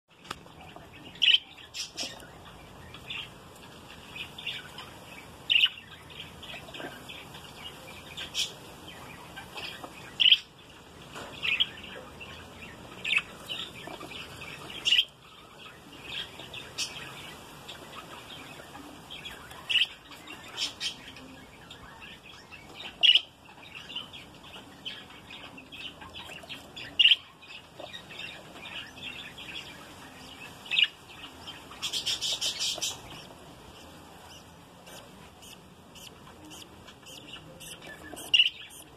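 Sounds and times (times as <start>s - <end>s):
budgerigars chirping: 0.6s - 38.9s.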